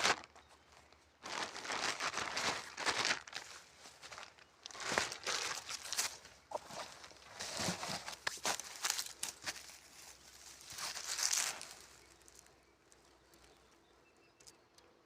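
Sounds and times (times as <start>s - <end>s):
rustling and crunching: 0.0s - 13.8s.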